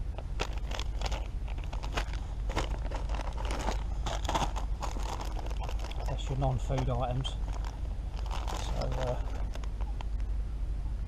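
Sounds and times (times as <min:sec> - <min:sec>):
plastic packaging crinkling: 0:00.4 - 0:10.0.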